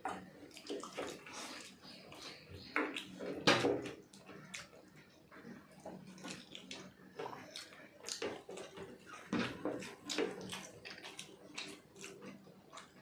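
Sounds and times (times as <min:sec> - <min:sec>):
people chewing and smacking: 0:00.0 - 0:13.0.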